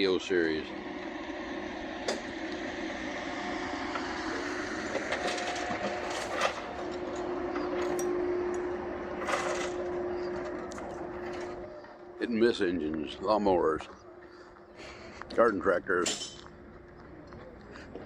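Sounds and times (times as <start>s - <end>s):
machine drone: 0.0s - 18.0s.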